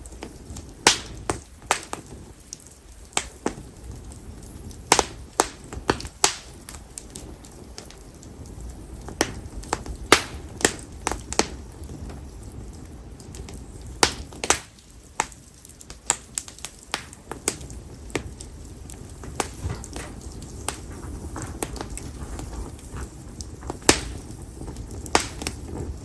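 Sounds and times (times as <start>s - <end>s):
campfire pops and snaps: 0.0s - 26.0s
flames rustling: 0.0s - 26.0s.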